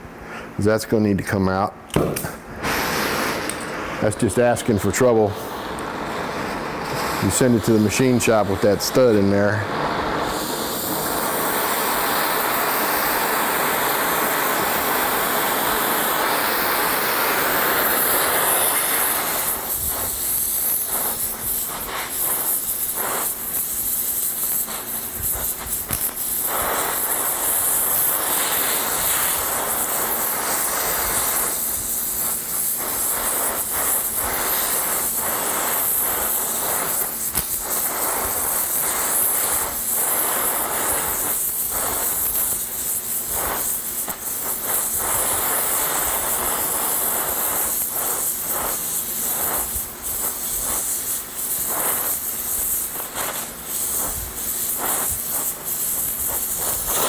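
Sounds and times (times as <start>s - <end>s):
torch flame hissing: 1.8s - 57.0s.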